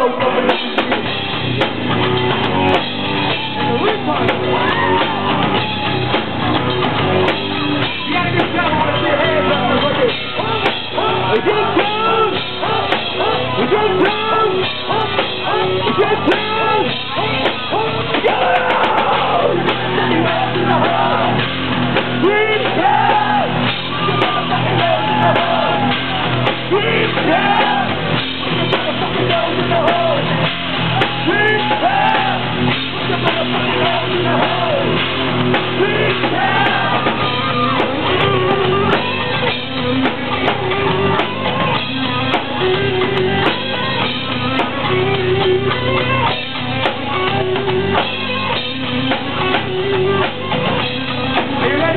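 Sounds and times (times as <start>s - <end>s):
high guitar riff: 0.0s - 51.9s
rock song with singing: 0.0s - 51.9s.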